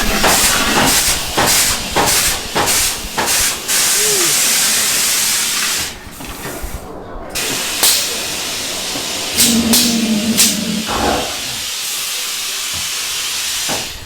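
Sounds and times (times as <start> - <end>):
loud hissing effects: 0.0 - 14.0.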